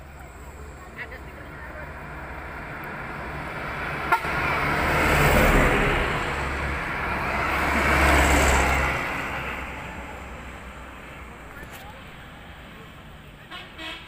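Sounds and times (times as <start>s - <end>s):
truck driving past: 0.0s - 13.8s.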